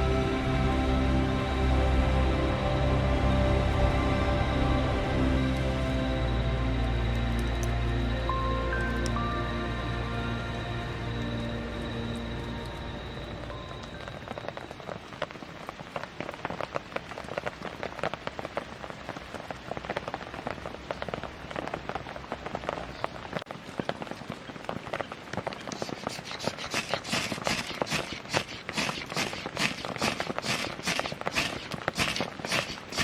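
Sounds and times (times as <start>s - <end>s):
campfire crackling and popping: 5.4s - 9.8s, 10.5s - 33.0s.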